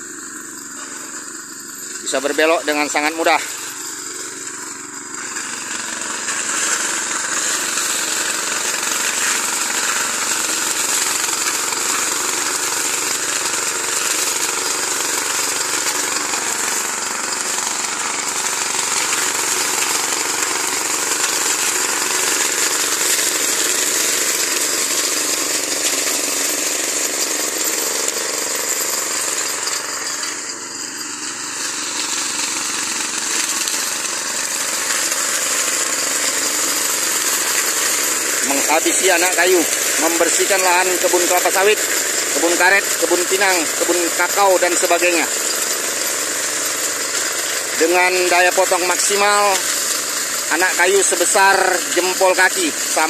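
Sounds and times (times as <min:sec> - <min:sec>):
brush cutter engine running: 0:00.0 - 0:53.0
blades chopping brush: 0:00.7 - 0:53.0.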